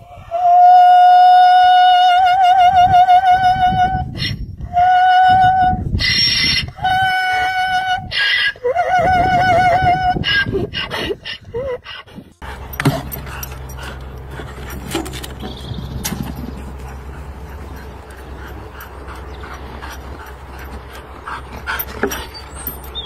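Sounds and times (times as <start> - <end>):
donkey braying: 3.8 - 23.0.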